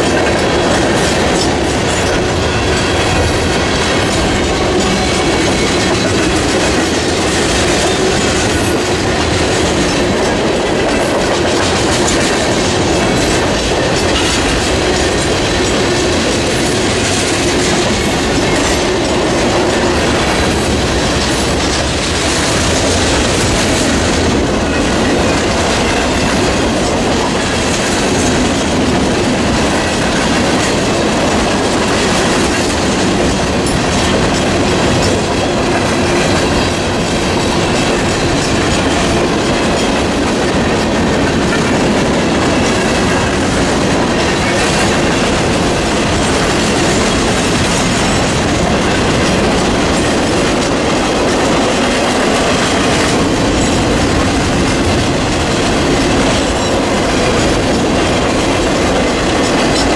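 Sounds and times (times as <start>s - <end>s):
steel wheels clattering on rail: 0.0s - 59.9s.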